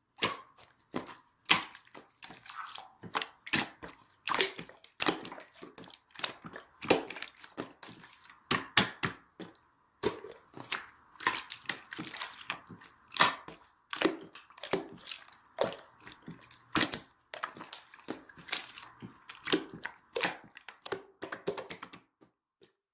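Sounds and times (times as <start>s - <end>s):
slime squished wet pops: 0.2s - 22.1s.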